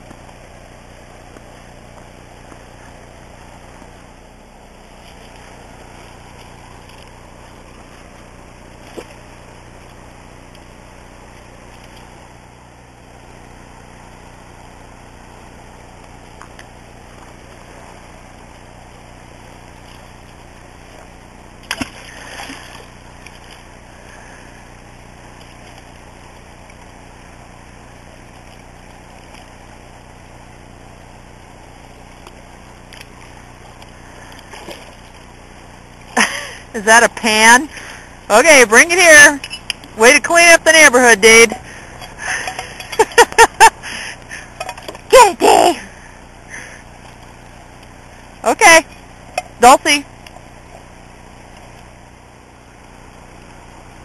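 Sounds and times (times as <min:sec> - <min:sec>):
shallow river water: 0:00.0 - 0:54.0.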